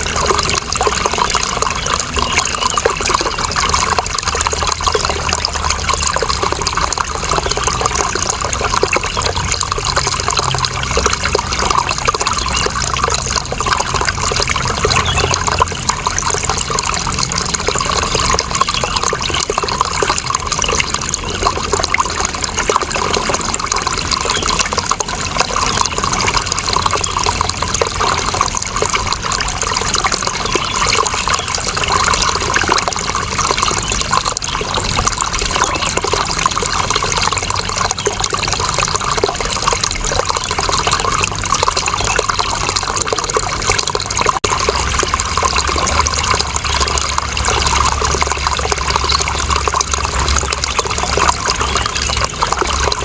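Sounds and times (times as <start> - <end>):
running water flowing: 0.0 - 53.0.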